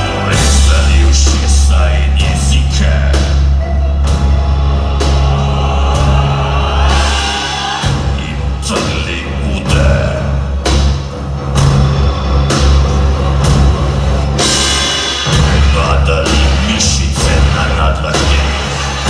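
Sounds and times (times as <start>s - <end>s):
rock band and orchestra playing: 0.0s - 19.0s.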